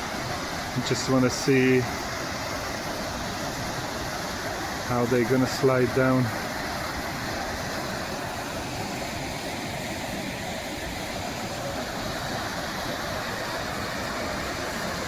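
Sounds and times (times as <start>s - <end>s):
waterfall pouring over rock: 0.0s - 15.0s.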